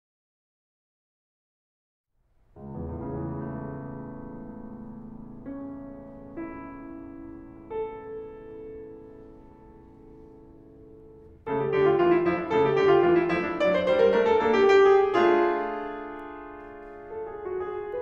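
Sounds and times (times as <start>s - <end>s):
solo piano playing classical music: 2.5s - 18.0s.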